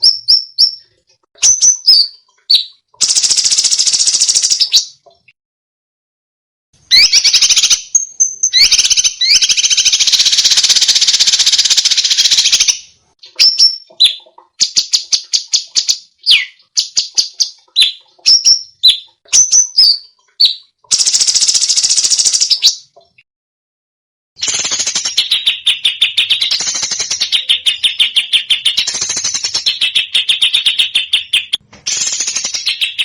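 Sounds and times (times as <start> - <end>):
songbird rattling song: 0.0 - 5.4, 6.9 - 23.2, 24.4 - 33.0.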